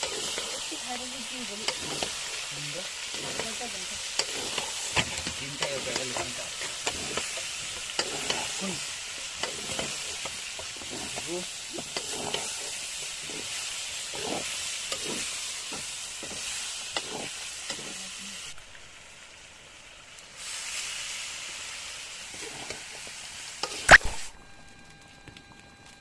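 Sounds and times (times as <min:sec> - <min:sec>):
scraping strokes in pan: 0:00.0 - 0:18.6, 0:20.4 - 0:24.3
food sizzling in a pan: 0:00.0 - 0:24.8.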